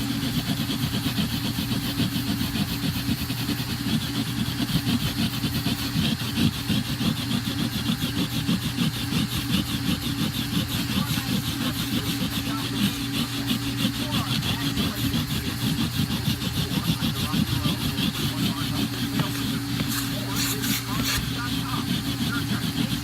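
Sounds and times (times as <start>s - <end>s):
vacuum cleaner on carpet: 0.0s - 23.0s.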